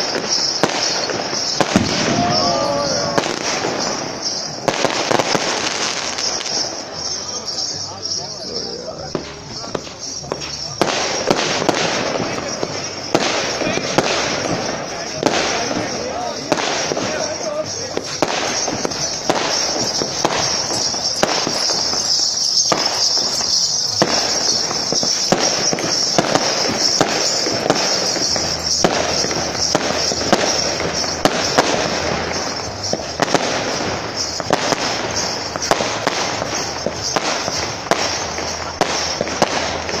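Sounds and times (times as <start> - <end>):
fireworks crackling hiss: 0.0 - 40.0
fireworks popping and banging: 0.0 - 40.0.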